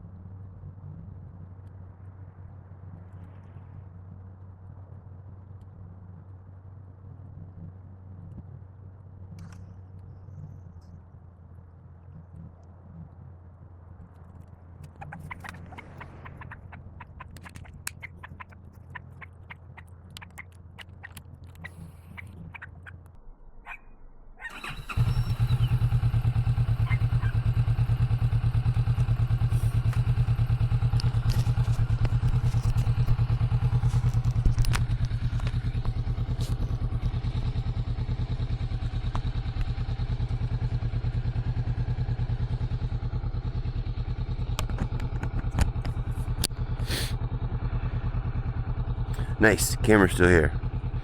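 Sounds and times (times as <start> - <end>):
motorcycle engine idling: 6.2 - 23.0, 24.5 - 51.0.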